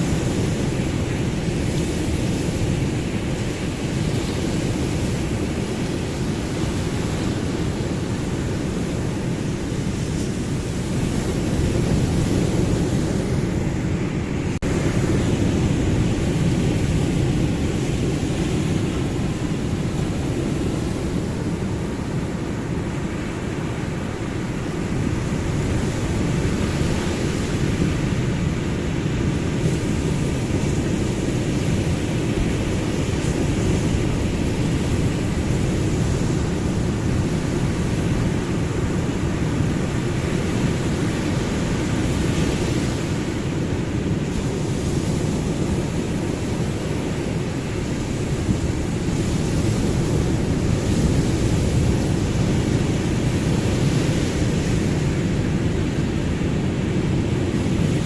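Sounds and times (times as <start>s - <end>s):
ocean surf washing: 0.0s - 58.0s.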